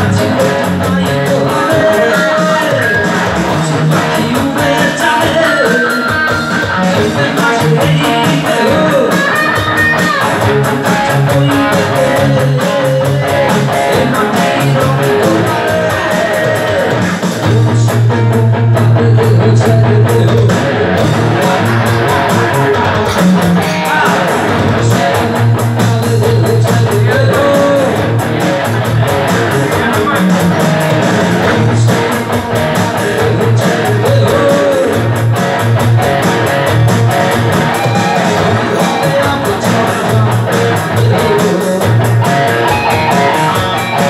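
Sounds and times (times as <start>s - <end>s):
electric lead guitar: 0.0s - 44.0s.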